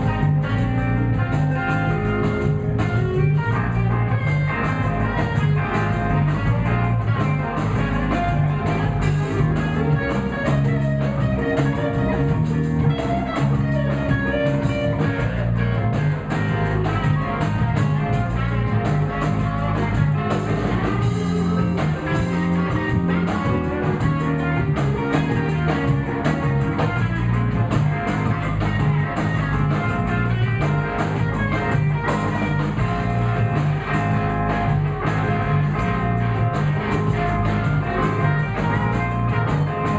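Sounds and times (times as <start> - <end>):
blues guitar: 0.0 - 39.9
drums: 0.0 - 39.9.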